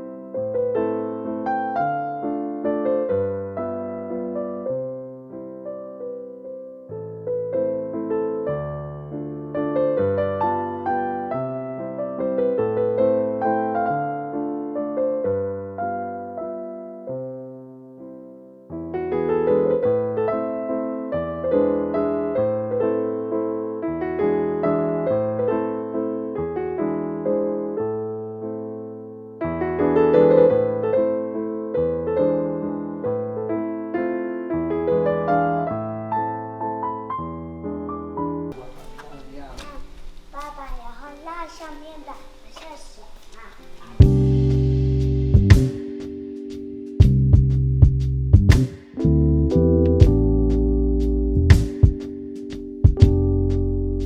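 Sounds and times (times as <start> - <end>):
gentle piano music: 0.0 - 54.0.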